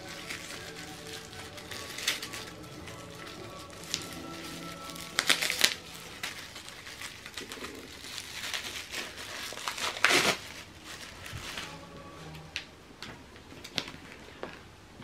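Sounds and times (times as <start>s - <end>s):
bubble wrap crinkling: 0.0s - 14.4s.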